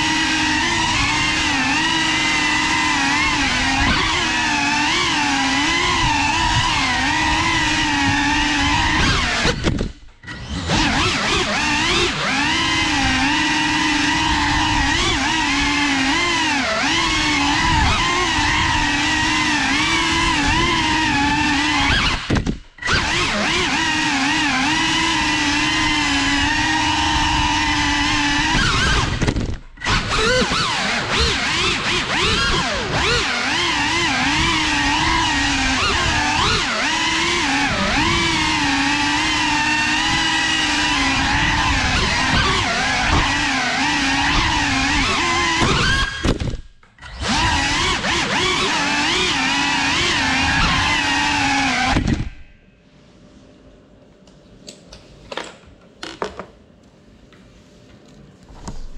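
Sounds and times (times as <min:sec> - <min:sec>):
drone motors whining: 0:00.0 - 0:52.6.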